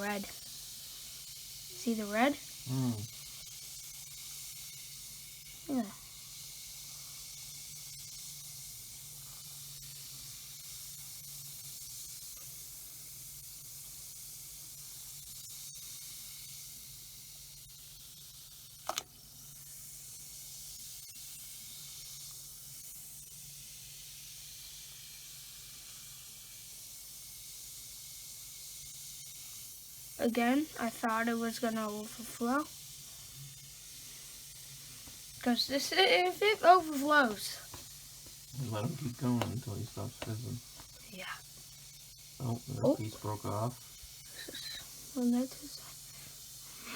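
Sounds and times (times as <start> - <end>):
fizzing hiss in water: 0.0 - 46.9.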